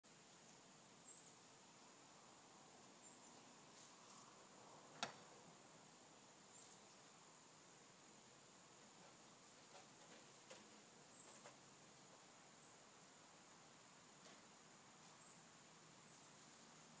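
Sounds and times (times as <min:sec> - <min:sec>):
faint insect drone: 0:00.1 - 0:17.0.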